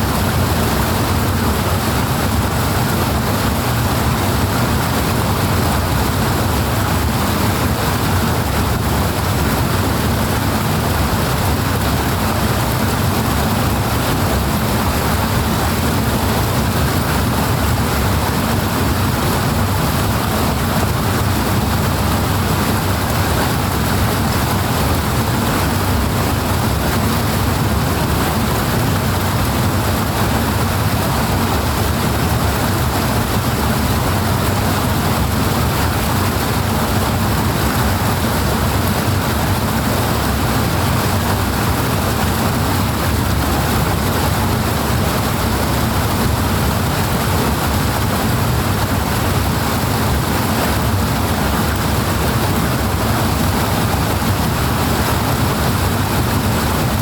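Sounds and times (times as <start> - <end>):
powerful rushing water: 0.0 - 57.0.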